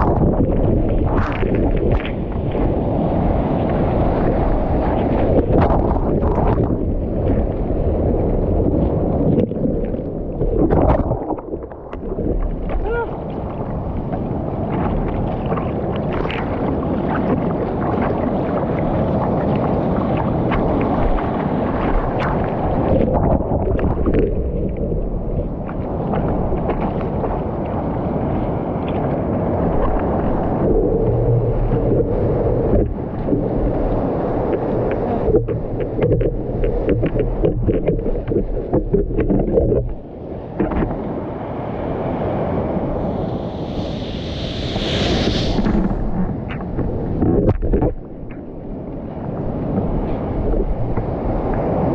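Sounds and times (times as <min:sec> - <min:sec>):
water churning in surf: 0:00.0 - 0:51.9
wind buffeting microphone: 0:00.0 - 0:51.9.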